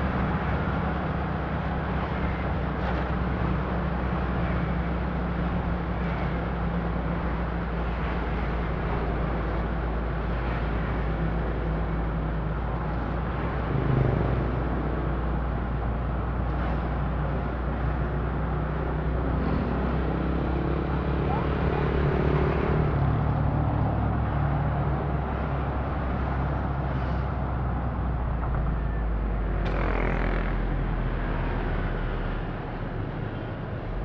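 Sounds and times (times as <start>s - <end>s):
road and engine noise: 0.0s - 34.0s.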